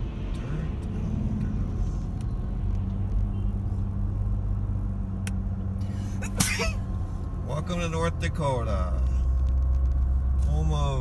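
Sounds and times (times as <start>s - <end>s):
tyre and engine rumble: 0.0s - 11.0s.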